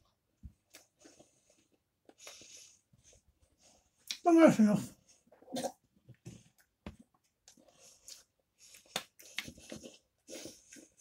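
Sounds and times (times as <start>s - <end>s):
soft chewing: 0.0s - 4.2s, 5.0s - 11.0s.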